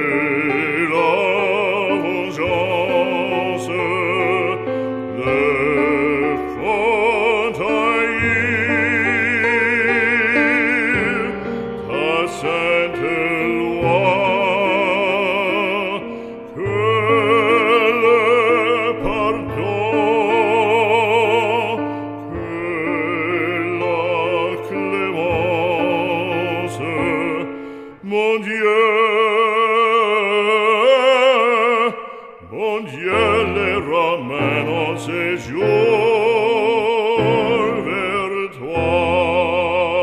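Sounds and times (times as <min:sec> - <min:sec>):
classical instrumental accompaniment: 0:00.0 - 0:40.0
operatic voice singing: 0:00.0 - 0:40.0.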